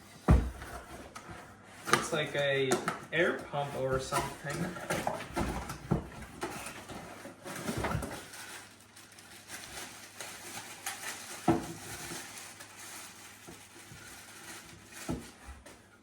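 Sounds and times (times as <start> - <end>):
packaging rustling: 1.8 - 16.0.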